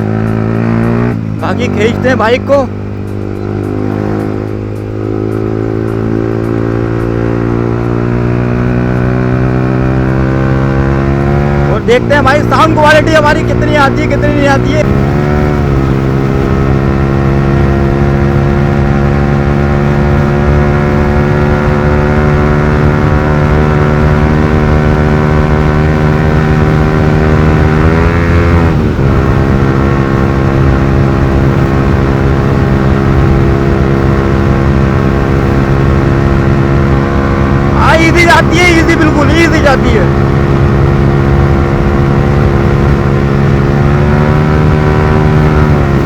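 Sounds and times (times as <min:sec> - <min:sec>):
motorcycle engine running loud: 0:00.0 - 0:46.0.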